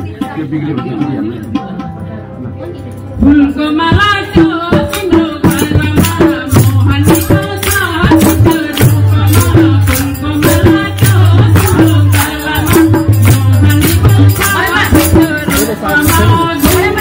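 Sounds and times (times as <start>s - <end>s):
rattling hand percussion: 0.0s - 17.0s
person singing devotional song: 3.2s - 17.0s.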